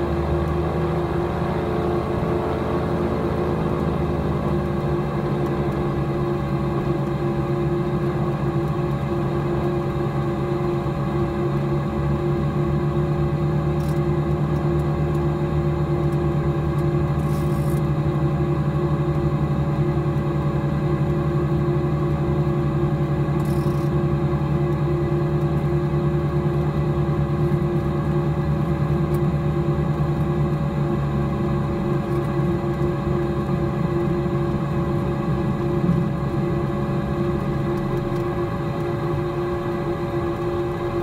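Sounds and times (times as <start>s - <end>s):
aircraft piston engines droning: 0.0s - 41.0s.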